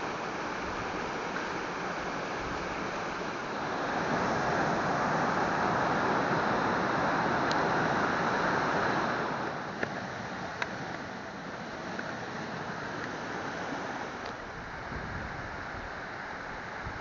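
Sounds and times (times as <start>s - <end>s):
water rushing in rocky stream: 0.0s - 17.0s.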